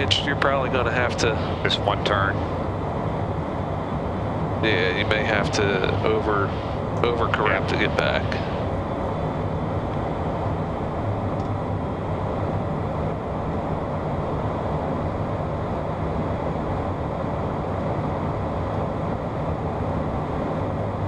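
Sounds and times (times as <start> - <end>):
jet engine and airflow rush: 0.0 - 21.0.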